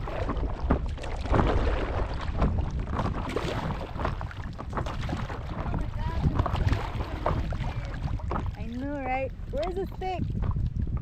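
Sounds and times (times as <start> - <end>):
paddle strokes splashing: 0.0 - 11.0
wind rumble on microphone: 0.0 - 11.0.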